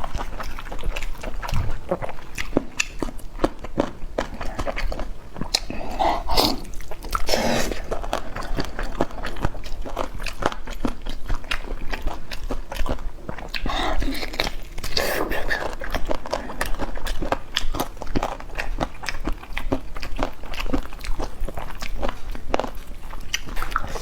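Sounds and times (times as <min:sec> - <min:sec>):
biting and chewing: 0:00.0 - 0:24.0.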